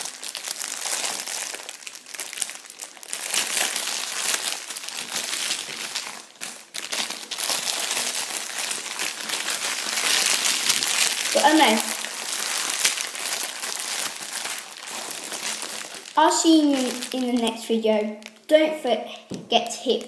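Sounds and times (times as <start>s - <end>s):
plastic wrapper crinkling: 0.0s - 20.0s.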